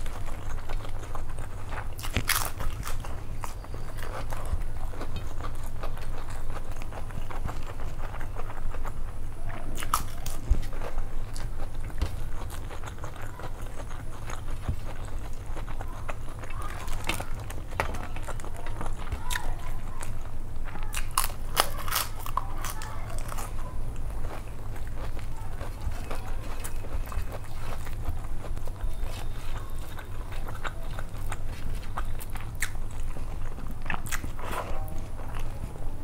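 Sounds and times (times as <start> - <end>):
chewing and wet mouth noises: 0.0 - 36.0
steady low hum: 0.0 - 36.0.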